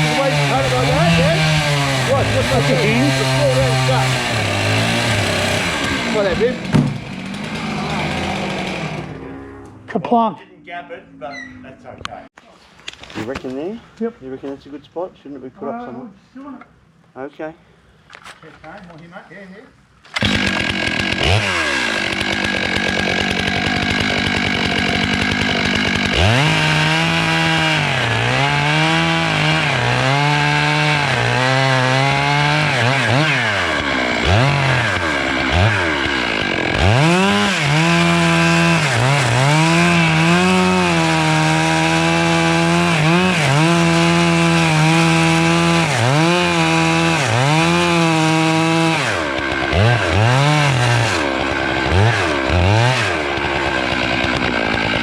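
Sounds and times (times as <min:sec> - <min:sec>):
chainsaw cutting wood: 0:00.0 - 0:09.2, 0:20.1 - 0:55.0.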